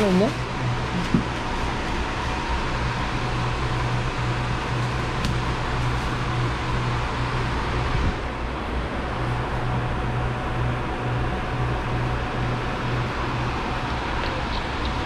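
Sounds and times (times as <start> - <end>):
mechanical whir with hum and hiss: 0.0 - 15.0.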